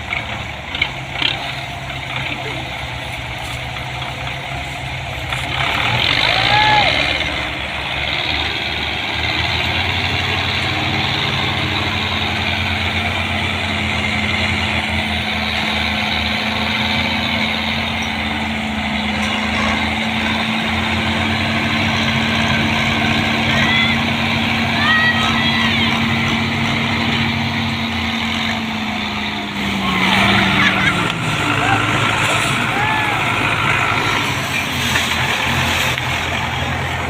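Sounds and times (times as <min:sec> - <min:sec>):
tractor diesel engine: 0:00.0 - 0:37.0.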